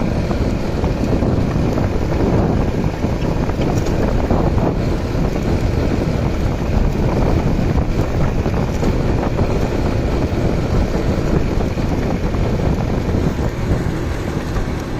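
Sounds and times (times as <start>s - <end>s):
motorcycle engine running: 0.0s - 14.9s
wind buffeting microphone: 0.0s - 14.9s.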